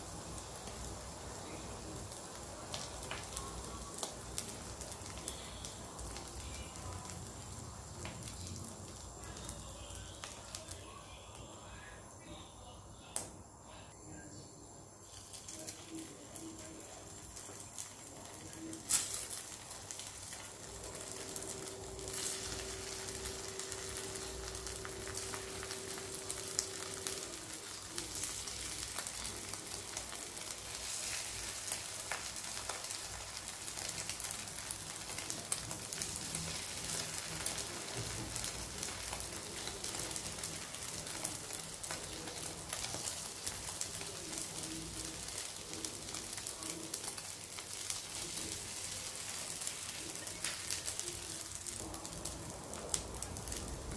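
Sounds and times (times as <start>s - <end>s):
meat sizzling in hot oil: 0.0s - 11.1s, 15.0s - 53.9s.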